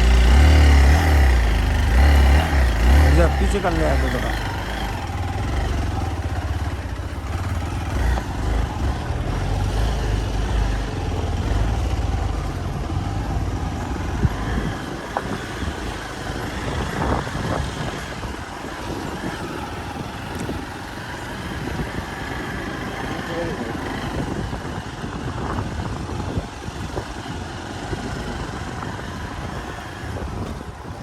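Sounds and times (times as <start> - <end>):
motorcycle engine rumble: 0.0 - 31.0.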